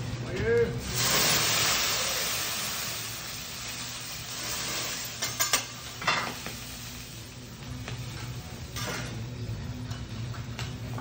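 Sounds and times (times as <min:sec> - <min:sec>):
liquid sizzling on hot griddle: 0:00.8 - 0:09.9.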